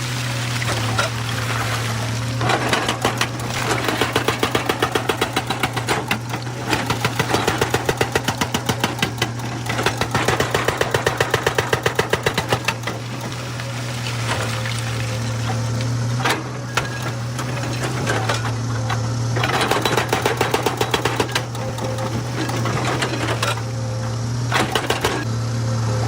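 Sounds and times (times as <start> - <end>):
diesel engine running: 0.0 - 26.0
hydraulic breaker hammering stone: 0.6 - 25.3.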